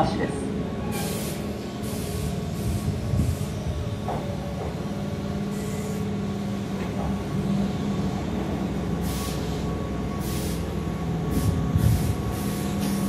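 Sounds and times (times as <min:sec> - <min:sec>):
electric train running hum: 0:00.0 - 0:13.0
train air hisses: 0:00.8 - 0:08.0, 0:08.8 - 0:13.0.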